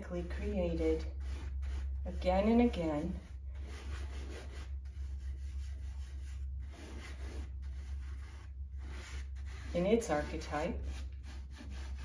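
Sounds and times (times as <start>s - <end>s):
steady low hum: 0.0s - 12.0s
pastel scratching on paper: 0.8s - 12.0s.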